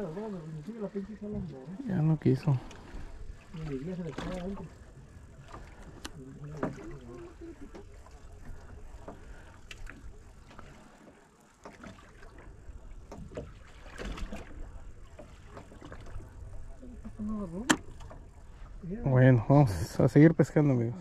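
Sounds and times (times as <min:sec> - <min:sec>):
water around boat: 0:00.0 - 0:21.0
wind: 0:00.0 - 0:21.0.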